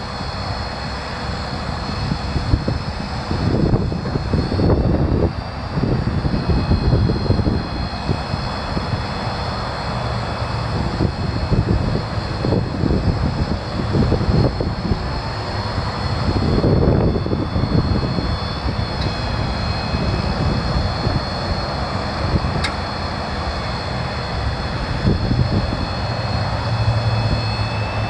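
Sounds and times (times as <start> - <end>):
diesel engine running: 0.0 - 28.0
thin high whine: 0.0 - 28.0.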